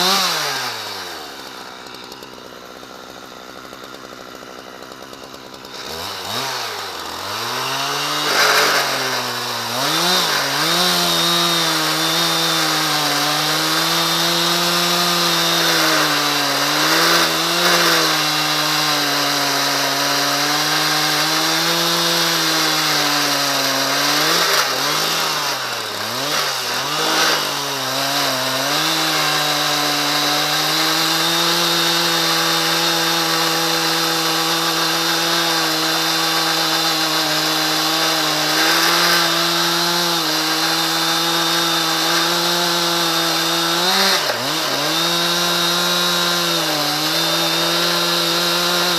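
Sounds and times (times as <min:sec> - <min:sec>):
chainsaw milling a log: 0:00.0 - 0:48.9.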